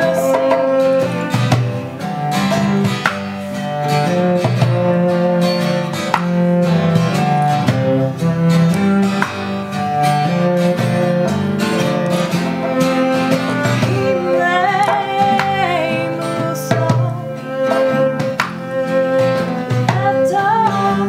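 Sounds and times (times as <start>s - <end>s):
acoustic guitars strumming: 0.0s - 21.0s
cello bowing long notes: 0.0s - 21.0s.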